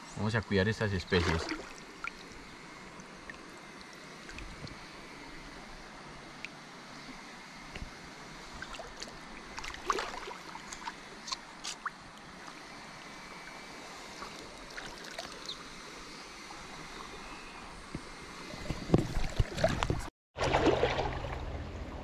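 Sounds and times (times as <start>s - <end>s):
river water flowing: 0.5s - 21.7s.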